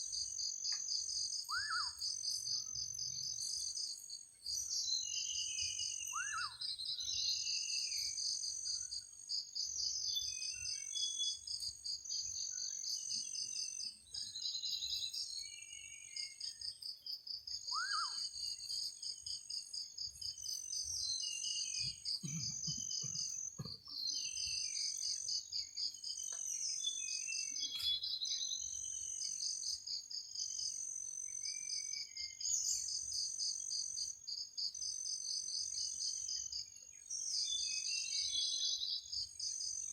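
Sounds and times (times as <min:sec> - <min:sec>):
bird chirps: 0:00.0 - 0:39.9
crickets trilling: 0:00.1 - 0:15.4, 0:16.2 - 0:39.9.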